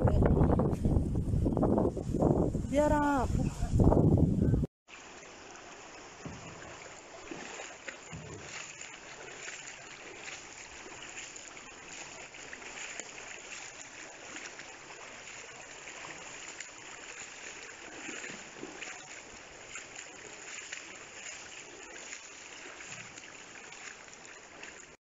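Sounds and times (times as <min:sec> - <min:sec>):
floodwater sloshing and splashing: 0:04.9 - 0:25.0.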